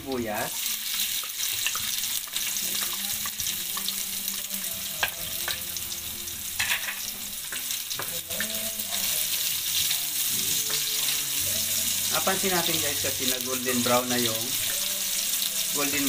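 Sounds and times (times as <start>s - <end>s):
onion and garlic sizzling in oil: 0.0s - 16.0s.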